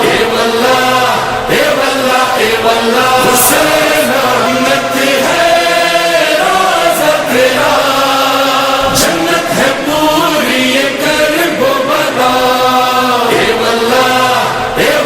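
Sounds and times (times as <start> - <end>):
devotional song chanted by voices: 0.0 - 15.0.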